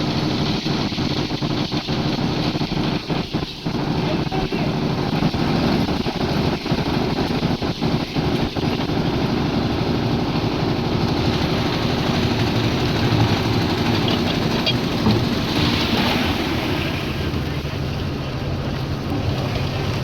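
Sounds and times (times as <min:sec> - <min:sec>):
concrete mixer engine running: 0:00.0 - 0:20.0.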